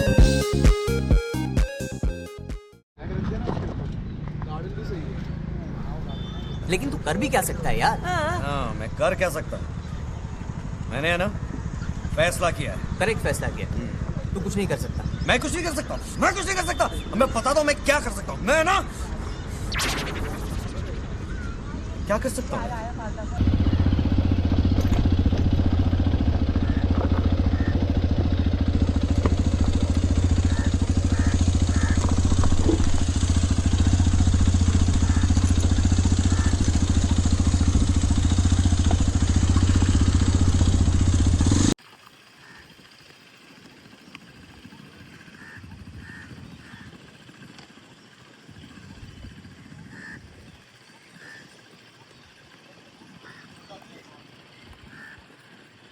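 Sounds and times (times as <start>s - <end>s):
motorcycle engine running: 3.0s - 19.5s, 20.6s - 41.8s, 43.5s - 53.5s.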